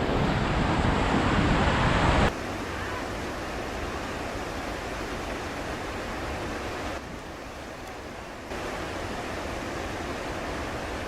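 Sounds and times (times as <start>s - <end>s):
rushing river water: 0.0s - 11.0s
wind on microphone: 0.0s - 11.0s.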